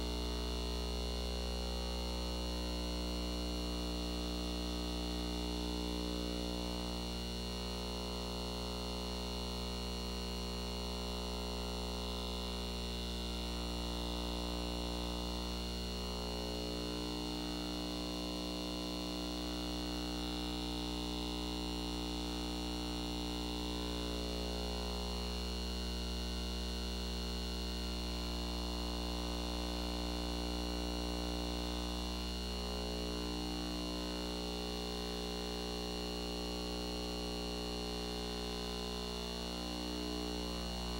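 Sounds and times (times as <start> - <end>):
electrical hum and buzz: 0.0 - 40.9.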